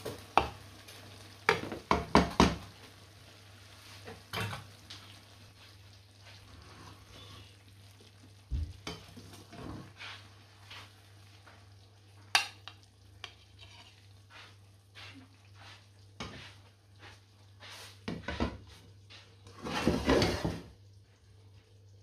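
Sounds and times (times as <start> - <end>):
spoon stirring and scraping pan: 0.0 - 21.7.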